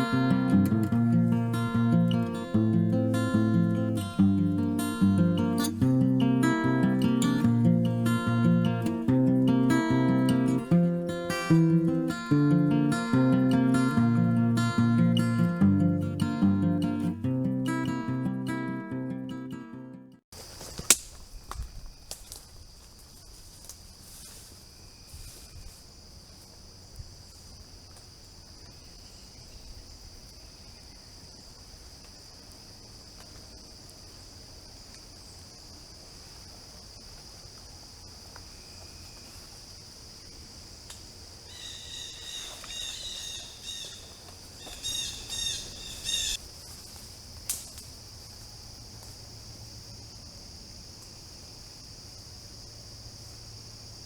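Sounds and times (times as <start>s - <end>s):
insects droning: 0.0s - 19.2s, 20.4s - 54.0s.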